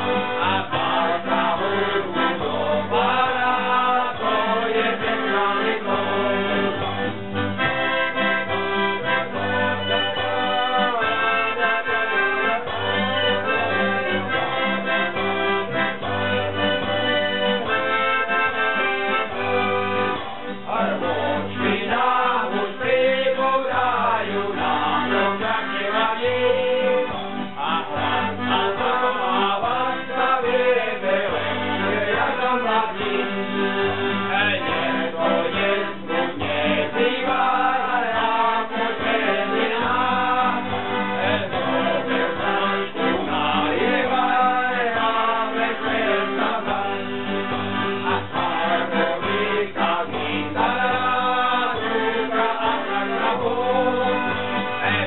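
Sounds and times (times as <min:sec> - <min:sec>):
accordion: 0:00.0 - 0:55.0
acoustic guitar: 0:00.0 - 0:55.0
men singing: 0:00.0 - 0:55.0.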